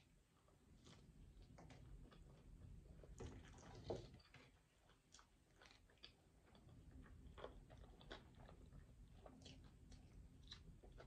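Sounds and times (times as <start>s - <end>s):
person chewing: 0.9s - 11.0s.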